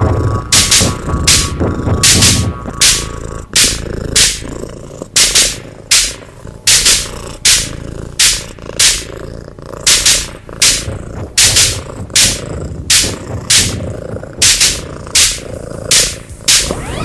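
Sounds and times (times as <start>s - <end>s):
sharp hissing pulses: 0.0s - 17.0s
steady low rumble: 0.0s - 17.0s.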